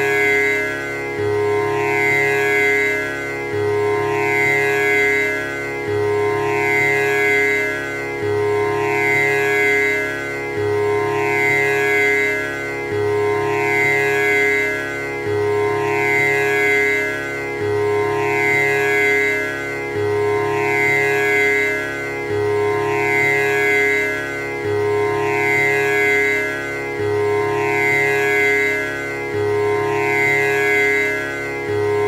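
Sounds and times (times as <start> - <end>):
tanpura drone: 0.0 - 32.0.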